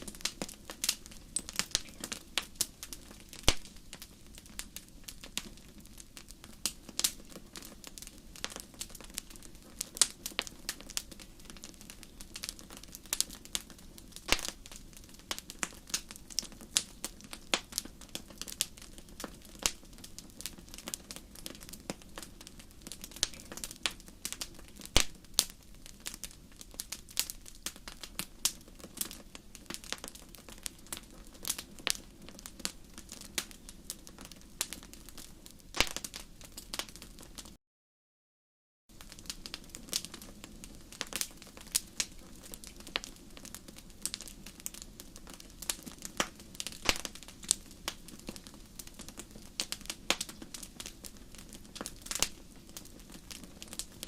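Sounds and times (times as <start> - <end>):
fire crackling and popping: 0.0 - 37.6, 38.9 - 54.0.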